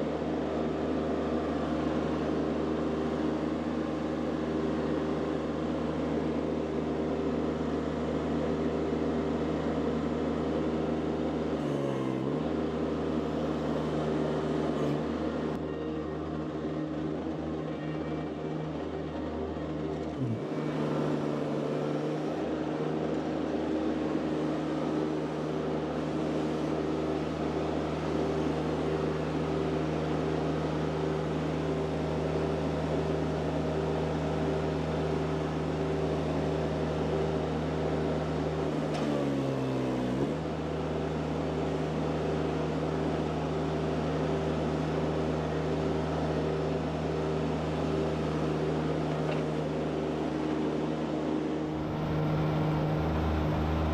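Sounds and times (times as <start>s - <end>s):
skid steer engine running: 0.0s - 53.9s.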